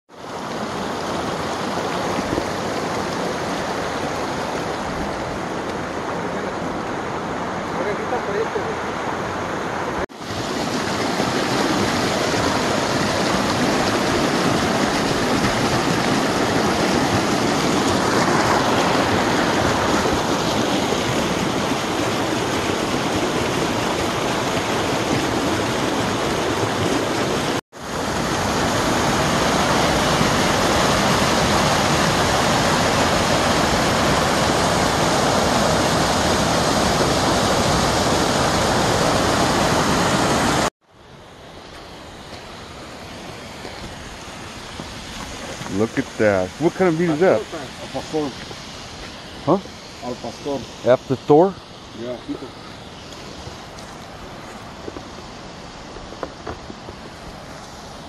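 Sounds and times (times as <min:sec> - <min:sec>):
creek rushing over rocks: 0:00.1 - 0:58.0.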